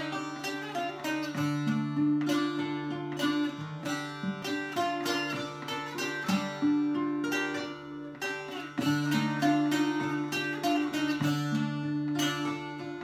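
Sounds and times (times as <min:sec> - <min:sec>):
plucked lute and acoustic guitar: 0:00.0 - 0:13.0.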